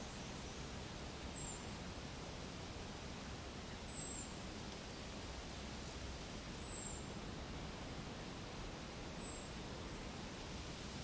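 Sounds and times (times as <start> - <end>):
soft outdoor wind: 0.0 - 11.0.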